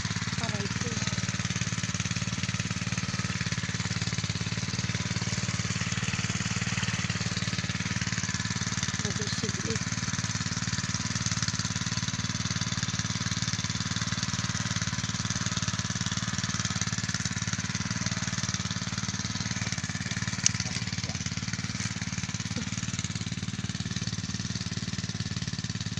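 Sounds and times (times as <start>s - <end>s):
small engine running: 0.0s - 25.9s.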